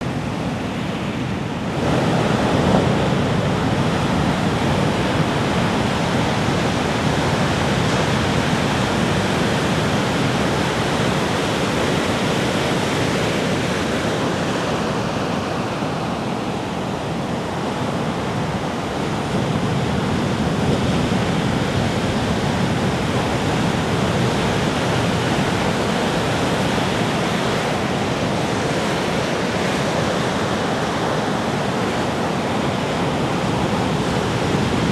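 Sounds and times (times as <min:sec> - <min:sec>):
waves breaking on a beach: 0:00.0 - 0:34.9.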